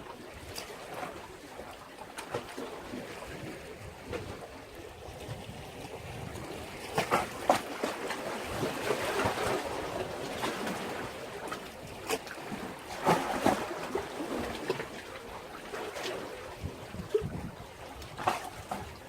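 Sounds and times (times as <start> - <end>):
water splashes and slaps: 0.0 - 19.0.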